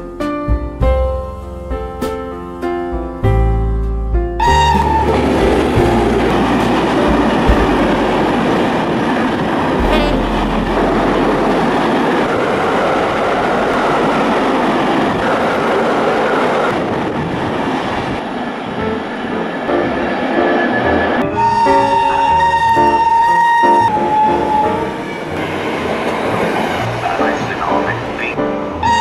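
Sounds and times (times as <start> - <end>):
train wheels rattling on rails: 4.6 - 28.8.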